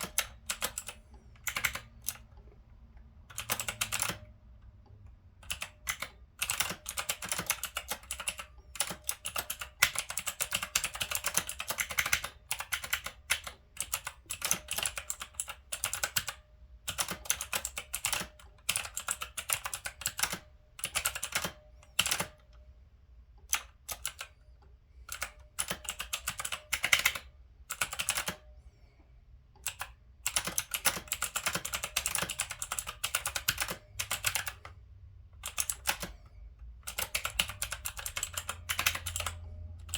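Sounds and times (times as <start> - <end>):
mechanical keyboard typing: 0.0 - 2.4, 3.2 - 4.3, 5.4 - 22.6, 23.4 - 24.4, 25.0 - 28.5, 29.6 - 34.7, 35.4 - 39.9.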